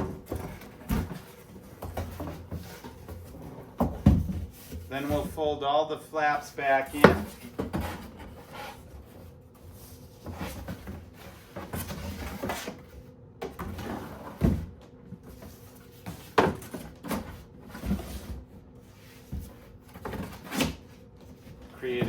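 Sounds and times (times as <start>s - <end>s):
cardboard scraping rustles: 0.0s - 5.4s, 6.4s - 22.0s.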